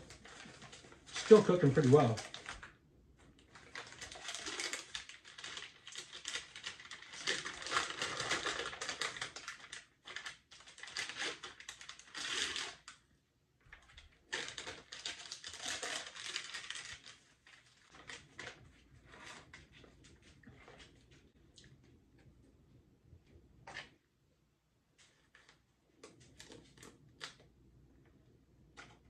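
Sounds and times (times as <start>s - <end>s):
plastic and foil packaging crinkling: 0.0s - 13.1s, 13.7s - 21.6s, 25.0s - 27.5s.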